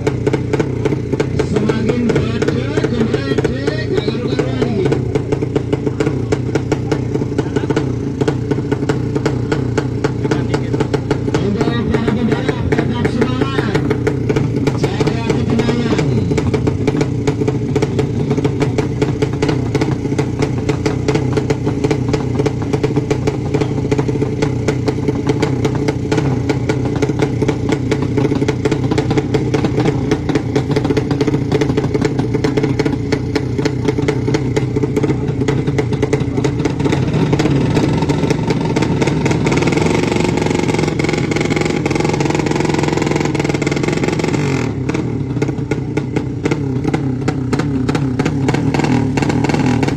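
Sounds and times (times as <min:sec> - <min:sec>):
motorcycle engine running hard: 0:00.0 - 0:49.9.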